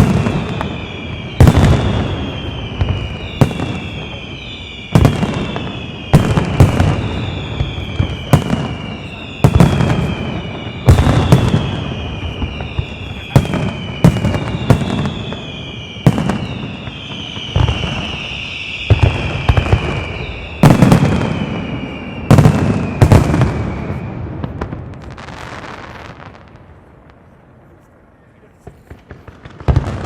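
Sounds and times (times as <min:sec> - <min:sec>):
firework whistles falling in pitch: 0:00.0 - 0:26.3.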